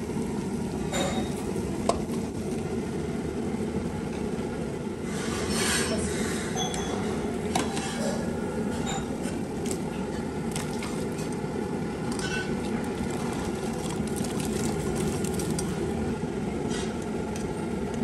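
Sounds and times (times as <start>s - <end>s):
water boiling in pot: 0.0s - 18.0s.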